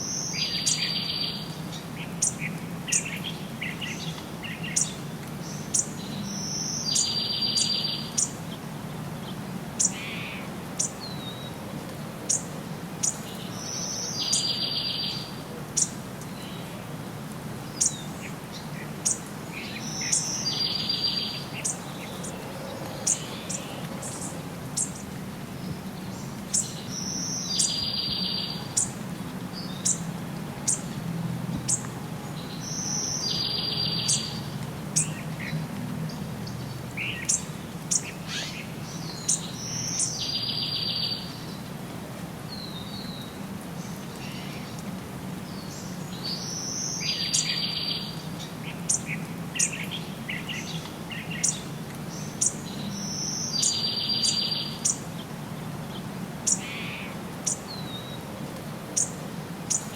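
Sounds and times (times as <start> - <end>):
birds chirping: 0.0 - 11.6, 12.3 - 16.8, 17.6 - 41.7, 42.5 - 59.9.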